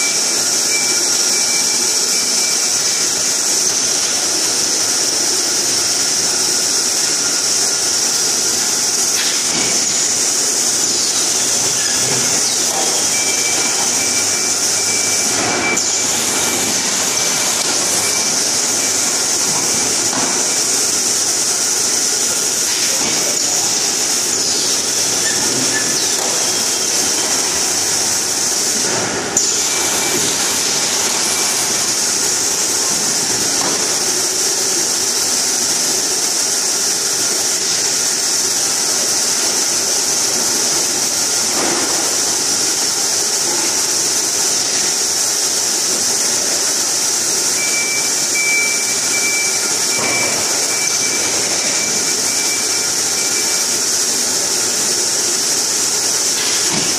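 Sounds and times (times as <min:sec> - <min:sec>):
high hiss: 0:00.0 - 0:56.9
machine drone: 0:00.0 - 0:56.9
thin high whine: 0:00.0 - 0:56.9.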